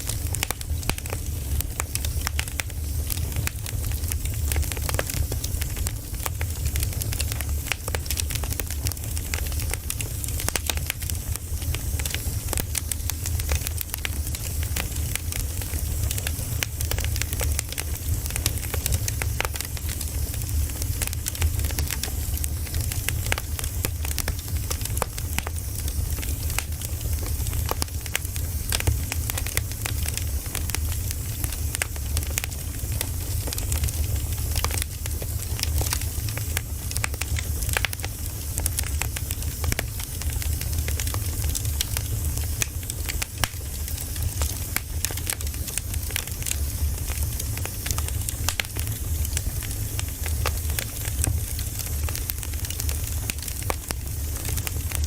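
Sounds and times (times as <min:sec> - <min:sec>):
low rumble of flames: 0:00.0 - 0:55.0
wood crackling and popping: 0:00.0 - 0:55.0.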